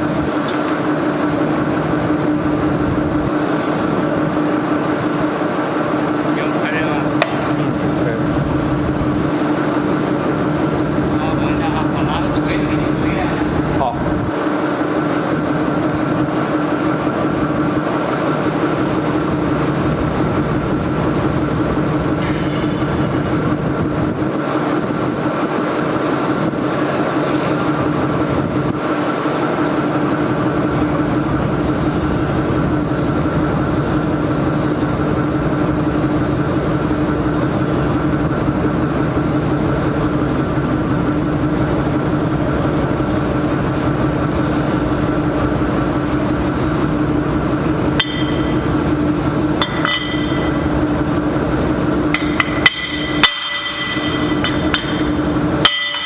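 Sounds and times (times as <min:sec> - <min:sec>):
machinery hum and whine: 0:00.0 - 0:56.0
machinery rumble: 0:00.0 - 0:56.0.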